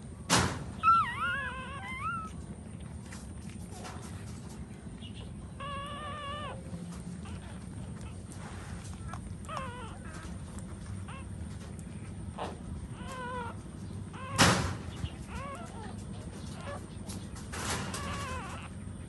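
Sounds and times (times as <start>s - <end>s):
puppies whining: 0.1s - 19.0s.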